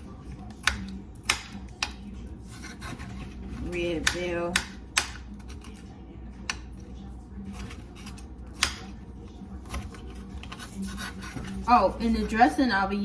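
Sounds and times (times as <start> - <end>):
knife slicing pepper: 0.3 - 6.7, 7.4 - 11.7.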